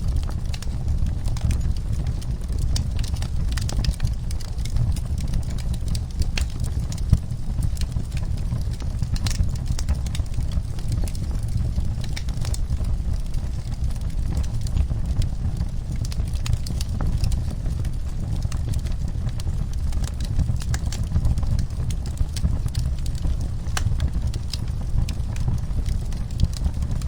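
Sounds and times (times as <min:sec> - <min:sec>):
low rumble of burning: 0:00.0 - 0:27.0
wood fire crackling: 0:00.0 - 0:27.0
fire pops and snaps: 0:00.1 - 0:27.0.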